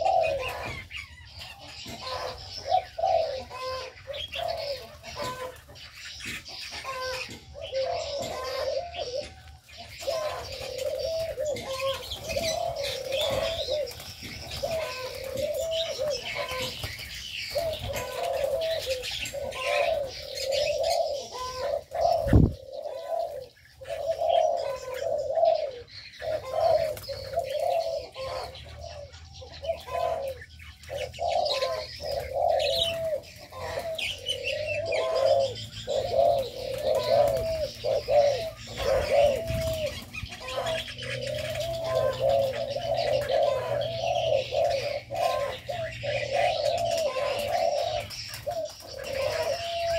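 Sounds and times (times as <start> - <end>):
doves cooing: 0.0 - 49.9
small birds chirping: 0.0 - 49.9.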